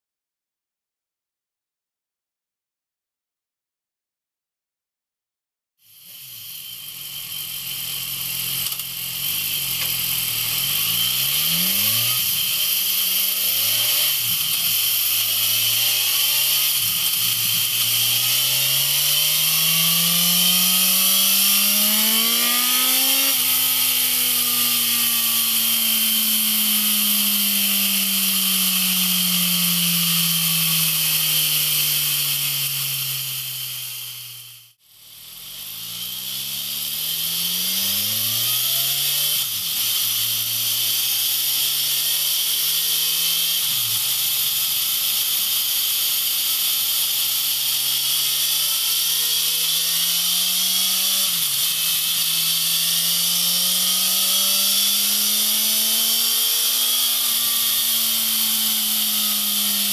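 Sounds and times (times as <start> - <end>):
motorcycle engine revving: 5.8 - 59.9.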